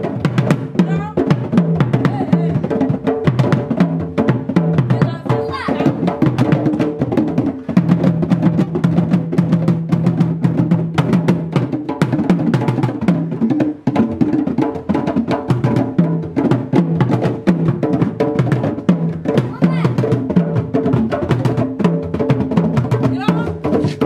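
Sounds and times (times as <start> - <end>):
drum ensemble playing fast rhythm: 0.0 - 24.0.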